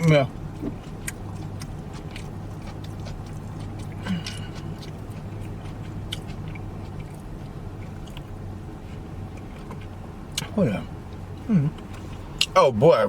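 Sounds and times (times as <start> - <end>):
person chewing and lip-smacking: 0.0 - 12.6.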